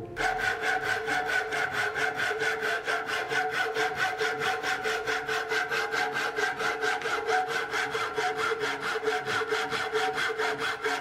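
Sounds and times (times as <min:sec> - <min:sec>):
handsaw cutting wood: 0:00.2 - 0:11.0.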